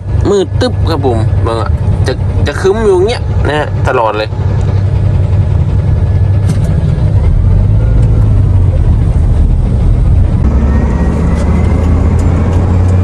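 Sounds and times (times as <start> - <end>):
truck engine and road noise: 0.0 - 13.0.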